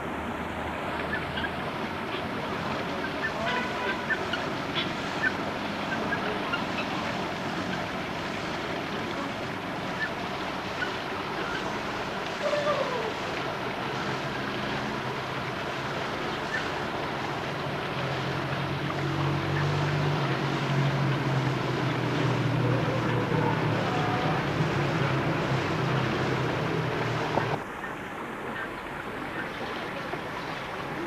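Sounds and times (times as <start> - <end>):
constant rushing noise: 0.0 - 31.0.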